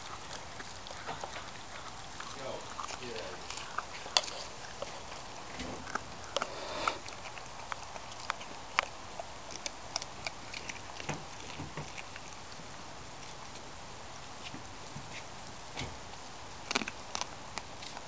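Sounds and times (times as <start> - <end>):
dog crunching bones: 0.0 - 18.0
wet squishy chewing: 0.0 - 18.0.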